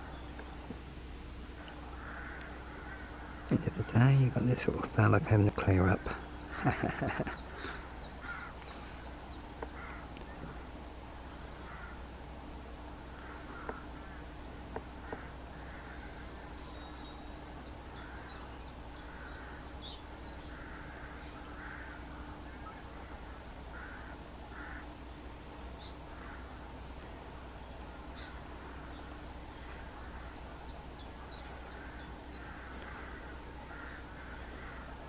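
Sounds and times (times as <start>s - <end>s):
small birds twittering: 0.0s - 35.0s
harsh caw-like bird calls: 1.5s - 5.1s, 5.7s - 12.2s, 13.0s - 25.1s, 25.8s - 26.6s, 28.0s - 35.0s.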